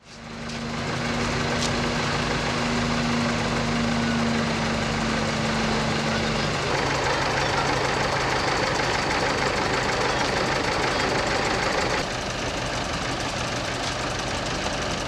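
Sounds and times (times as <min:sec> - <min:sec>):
crane engine running: 0:00.0 - 0:15.0.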